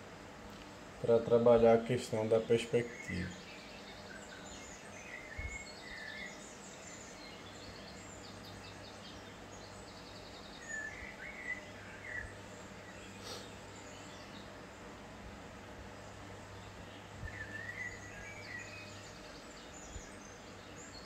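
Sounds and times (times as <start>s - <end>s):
faint bird chirps and trills: 0.0s - 21.0s
low steady hum: 0.0s - 21.0s.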